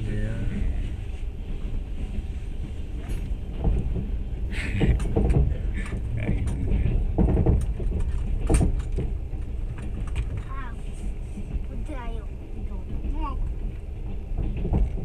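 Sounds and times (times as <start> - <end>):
train carriage low rumble: 0.0 - 15.0
knocks and clatters: 0.4 - 15.0.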